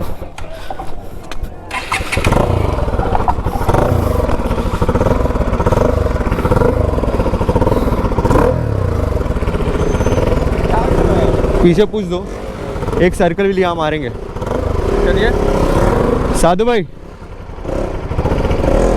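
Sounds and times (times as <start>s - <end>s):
motorcycle engine starting and running: 0.1s - 18.9s.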